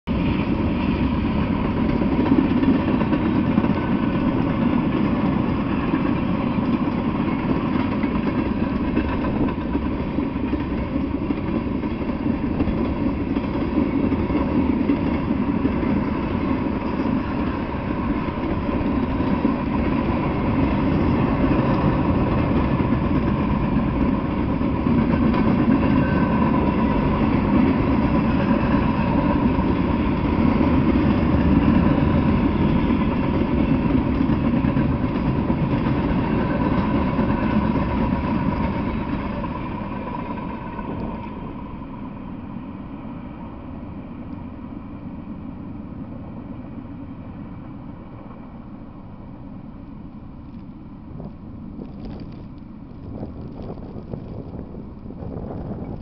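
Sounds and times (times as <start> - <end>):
freight train cars rolling on rails: 0.1 - 56.0.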